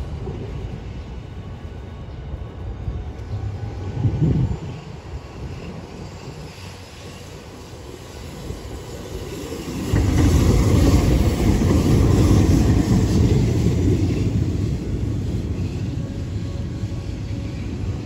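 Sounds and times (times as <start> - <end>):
tram passing on track: 0.0 - 18.0.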